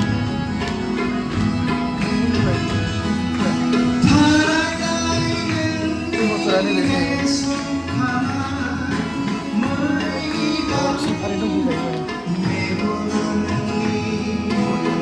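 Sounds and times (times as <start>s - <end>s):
sliding melodic line: 0.0s - 15.0s
sustained instrumental tones: 0.0s - 15.0s.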